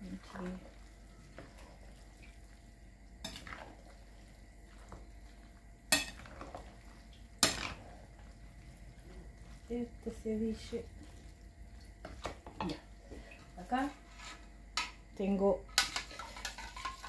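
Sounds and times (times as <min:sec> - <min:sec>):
stirring wet food in glass bowl: 0:00.0 - 0:02.7, 0:03.3 - 0:14.4, 0:15.8 - 0:17.0.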